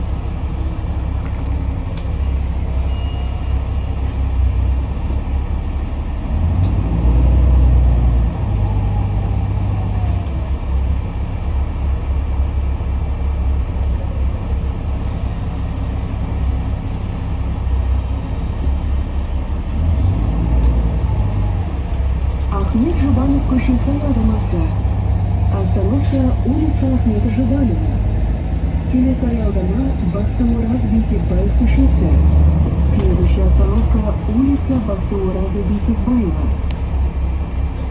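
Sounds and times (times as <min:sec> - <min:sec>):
bus engine drone: 0:00.0 - 0:37.9
road rumble: 0:00.0 - 0:37.9.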